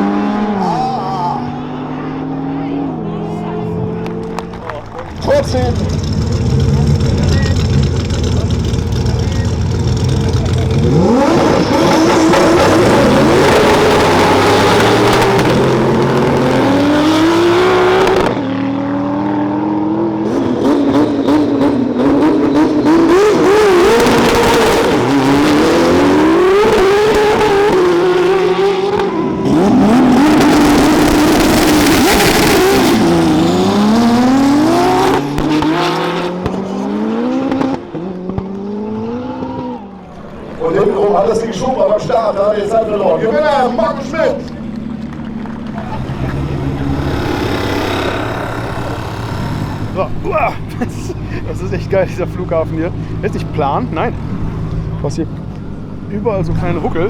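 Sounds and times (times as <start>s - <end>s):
race cars accelerating: 0.0s - 57.0s.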